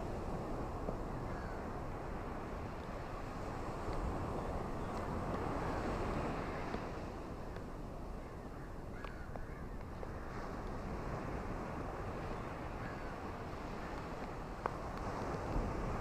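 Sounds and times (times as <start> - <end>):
ocean surf on beach: 0.0 - 16.0.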